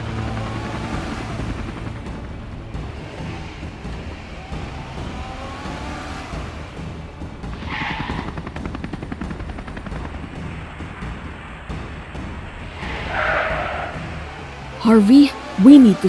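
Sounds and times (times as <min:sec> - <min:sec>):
vehicles rumbling: 0:00.0 - 0:16.0.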